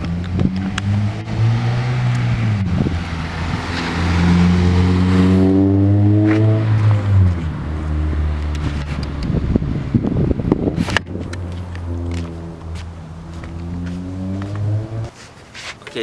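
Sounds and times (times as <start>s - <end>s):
car engine revving: 0.0s - 15.1s.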